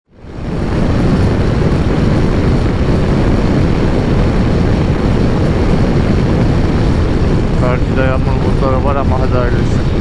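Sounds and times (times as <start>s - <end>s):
motorcycle engine and road noise: 0.1s - 10.0s
wind rushing over microphone: 0.1s - 10.0s.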